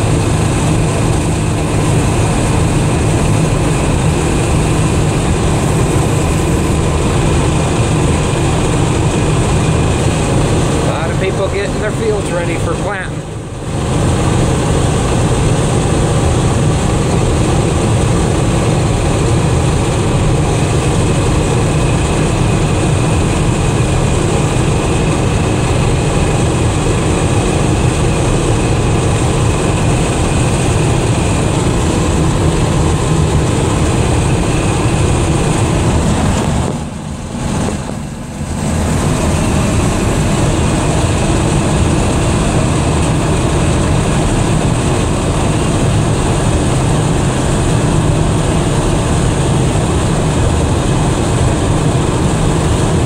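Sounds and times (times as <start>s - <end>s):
engine rumble: 0.0s - 53.0s.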